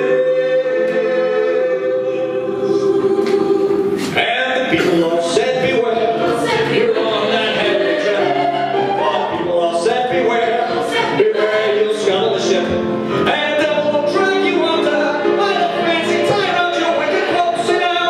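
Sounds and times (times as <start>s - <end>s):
grand piano: 0.0s - 18.0s
man and vocal ensemble singing: 0.0s - 18.0s.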